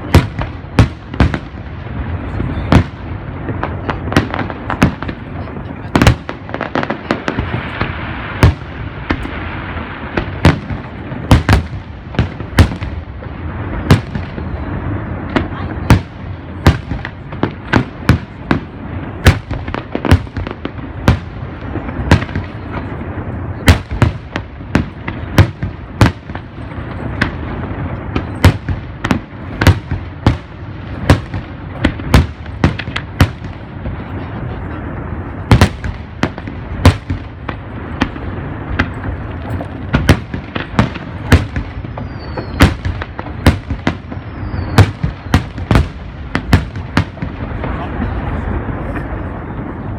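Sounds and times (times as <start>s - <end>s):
fireworks bursting with bangs: 0.0s - 49.9s.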